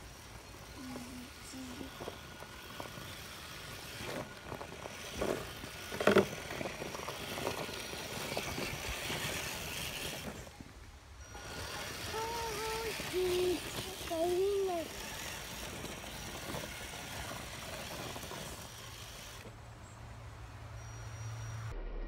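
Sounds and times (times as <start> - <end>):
rc truck motor whining: 0.0 - 19.6.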